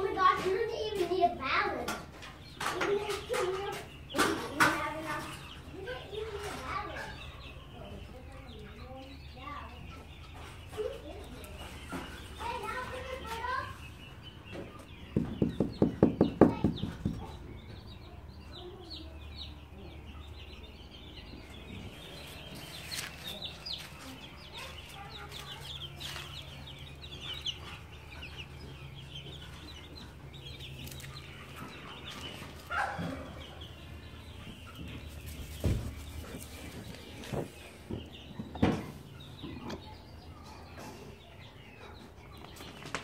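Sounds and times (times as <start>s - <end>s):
chickens clucking: 0.0s - 43.0s
chicks peeping: 0.0s - 43.0s.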